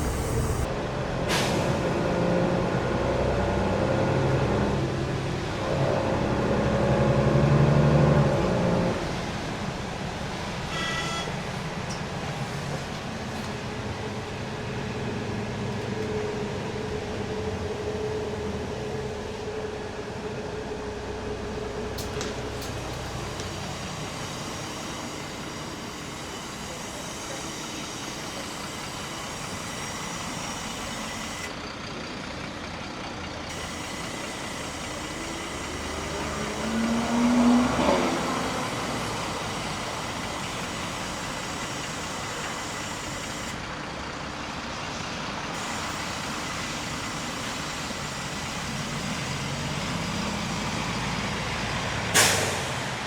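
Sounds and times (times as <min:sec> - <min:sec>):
heavy vehicle engine running: 0:00.0 - 0:53.0
street traffic noise: 0:00.0 - 0:53.0.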